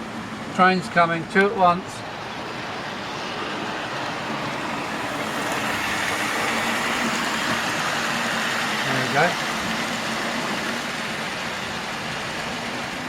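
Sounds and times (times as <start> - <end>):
model trains rumbling on track: 0.0 - 13.0.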